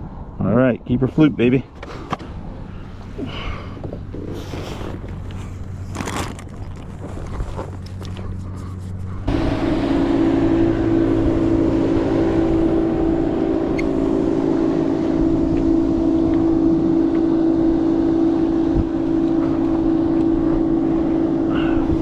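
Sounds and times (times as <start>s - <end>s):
motorboat engine droning: 2.5s - 22.0s.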